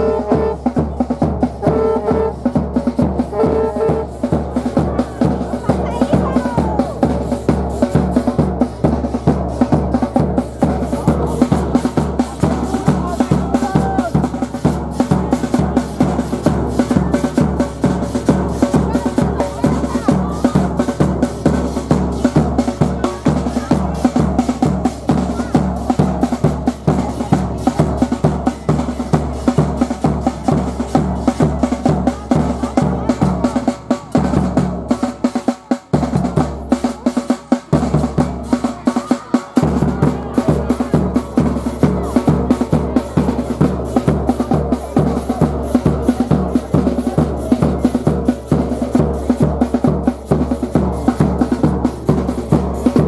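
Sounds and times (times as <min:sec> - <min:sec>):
crowd voices: 0:00.0 - 0:53.0
drums beaten in quick rhythm: 0:00.0 - 0:53.0.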